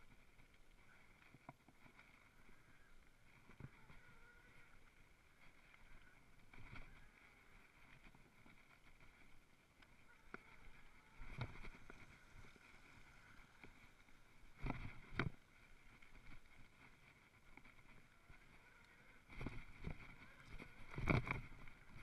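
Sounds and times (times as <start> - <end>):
bike knocking and rattling: 0.0 - 22.0.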